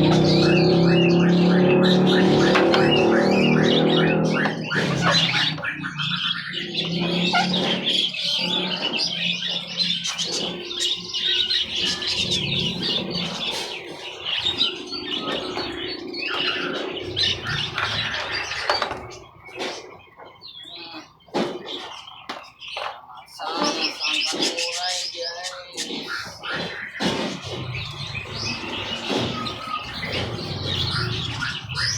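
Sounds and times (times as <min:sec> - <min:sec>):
songbirds chirping and twittering: 0:00.0 - 0:31.9.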